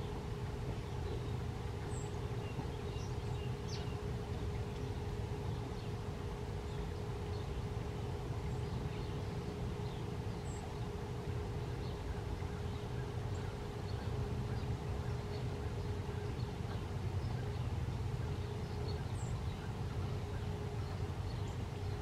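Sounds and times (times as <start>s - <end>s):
constant hum: 0.0s - 22.0s
low outdoor rumble: 0.0s - 22.0s.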